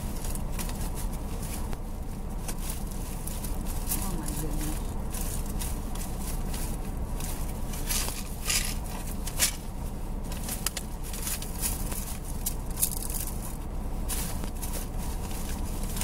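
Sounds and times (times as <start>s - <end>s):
car engine idling: 0.0s - 16.0s
rustling and crinkling of items: 0.0s - 16.0s.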